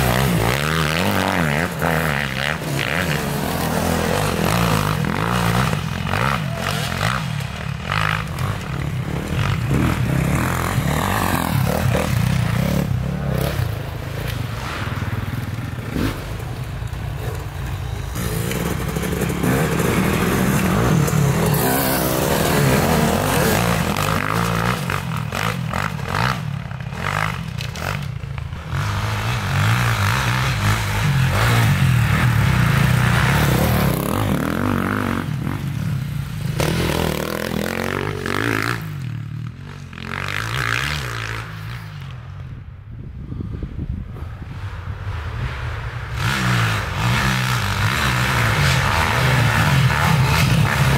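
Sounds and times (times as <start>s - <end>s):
dirt bike engines revving past: 0.0s - 42.6s, 43.4s - 50.9s.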